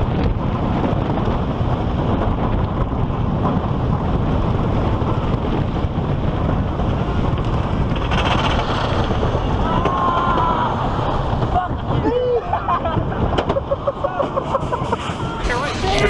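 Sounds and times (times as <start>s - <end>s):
roller coaster rumbling on track: 0.0s - 16.0s
wind rushing over microphone: 0.0s - 16.0s.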